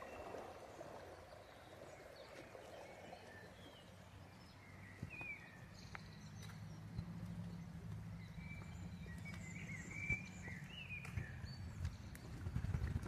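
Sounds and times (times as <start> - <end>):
bird chirps: 1.4 - 12.4.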